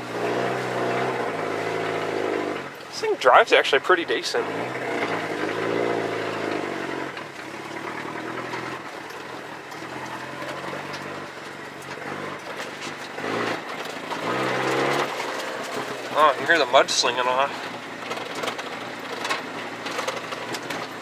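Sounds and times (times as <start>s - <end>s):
pickup truck engine running: 0.0s - 21.0s.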